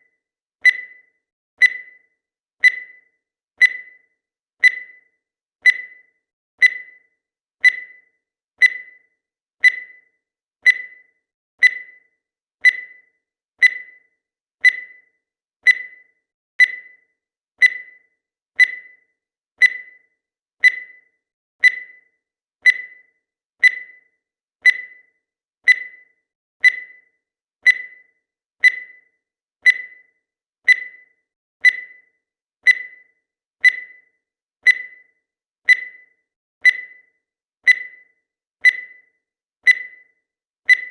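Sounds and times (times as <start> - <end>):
countdown timer beeping: 0.6 - 20.0, 20.6 - 40.9.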